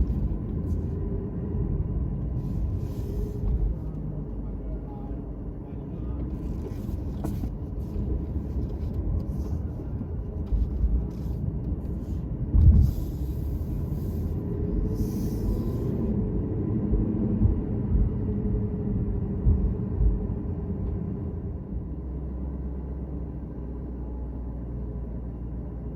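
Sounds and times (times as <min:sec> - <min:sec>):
vehicle rumble: 0:00.0 - 0:25.9.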